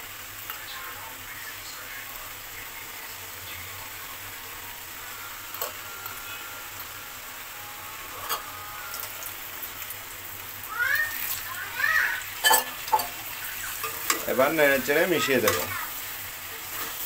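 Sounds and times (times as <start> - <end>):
curry sizzling in metal pan: 0.0 - 17.0.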